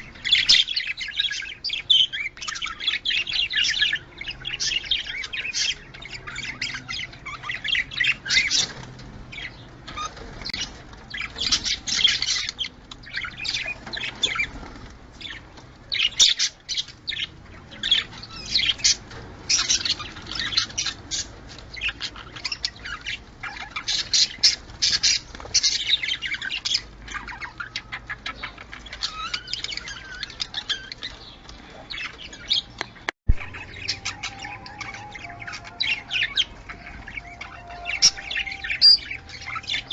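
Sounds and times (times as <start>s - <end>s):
budgerigars chattering: 0.0s - 14.6s, 15.2s - 39.9s.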